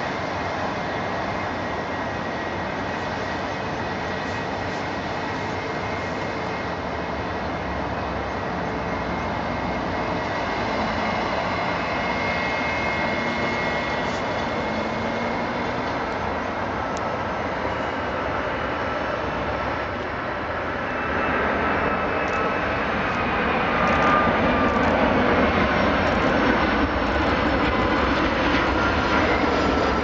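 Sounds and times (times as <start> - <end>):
jet engines roaring with whine: 0.0 - 30.0.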